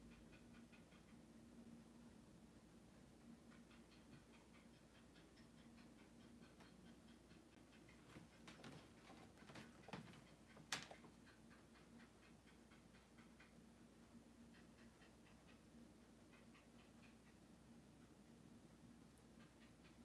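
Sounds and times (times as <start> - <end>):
faint steady hum: 0.0 - 20.0
soft ticks and clicks: 2.9 - 20.0.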